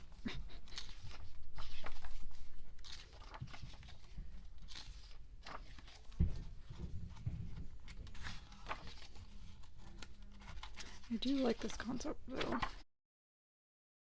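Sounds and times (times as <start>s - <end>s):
glossy pages turning: 0.0s - 6.8s, 7.5s - 12.8s.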